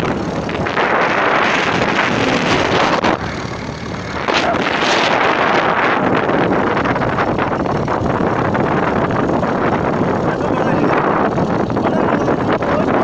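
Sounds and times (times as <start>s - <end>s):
boat engine: 0.0s - 13.0s
water noise: 0.0s - 13.0s
wind rushing over microphone: 0.0s - 13.0s.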